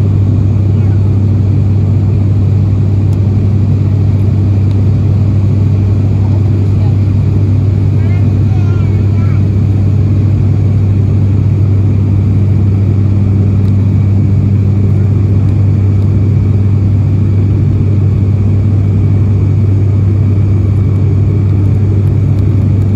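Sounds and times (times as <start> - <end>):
turboprop drone in cabin: 0.0 - 22.9.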